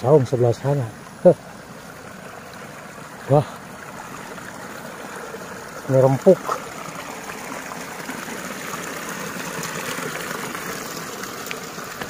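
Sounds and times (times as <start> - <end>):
shallow water running over stones: 0.0 - 12.0.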